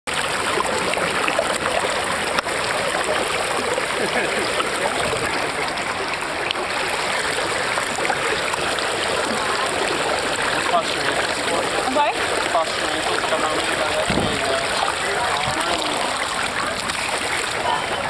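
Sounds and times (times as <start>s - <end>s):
water rushing down slide: 0.1s - 18.0s.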